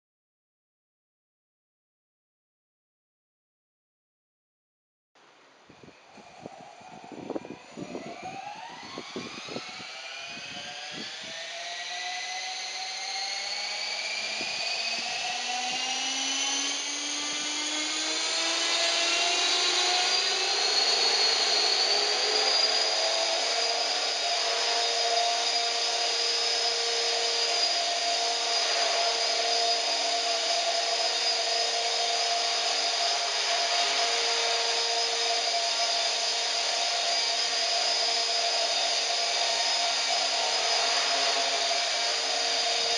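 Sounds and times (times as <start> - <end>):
rc helicopter motor whine: 5.8 - 42.9.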